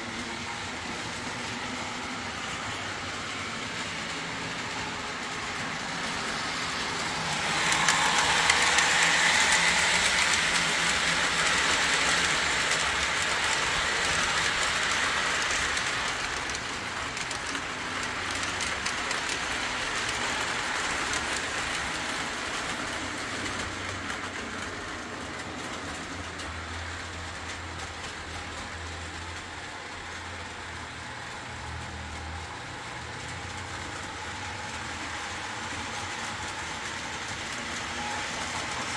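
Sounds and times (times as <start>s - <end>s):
model train locomotives running: 0.0s - 38.9s.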